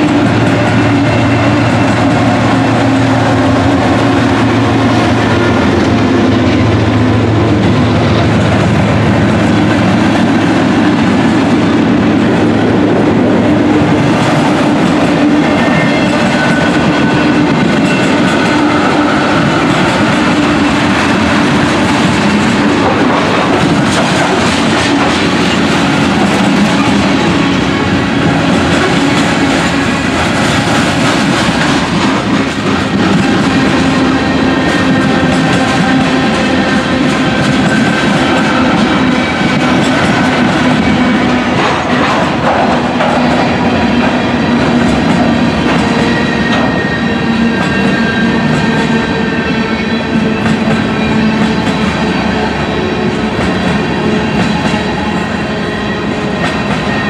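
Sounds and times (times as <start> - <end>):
diesel locomotive engines droning: 0.0 - 57.0
train wheels clacking on rail joints: 0.0 - 57.0.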